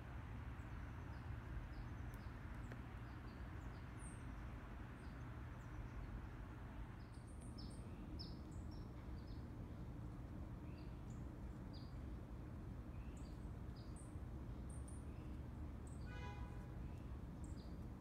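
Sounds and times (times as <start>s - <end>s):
small birds chirping: 0.5s - 6.4s, 7.0s - 9.9s, 10.6s - 12.2s, 12.8s - 18.0s.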